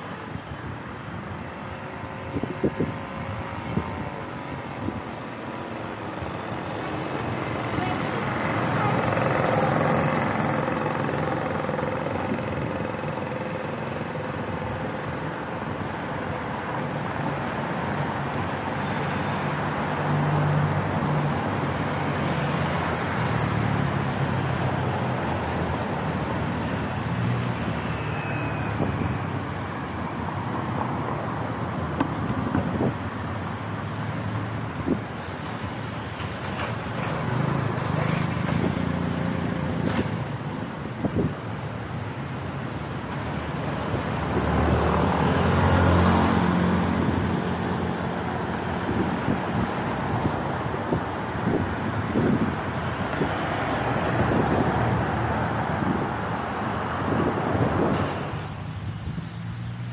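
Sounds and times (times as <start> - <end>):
motor vehicles passing: 0.0 - 59.9.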